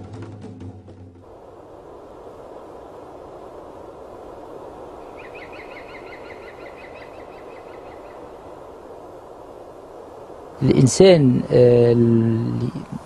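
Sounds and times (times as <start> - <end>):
outdoor ambience hiss: 0.0 - 13.0.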